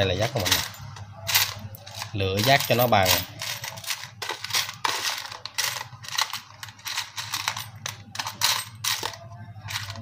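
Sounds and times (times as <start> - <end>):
plastic and metal parts rattling: 0.0 - 10.0.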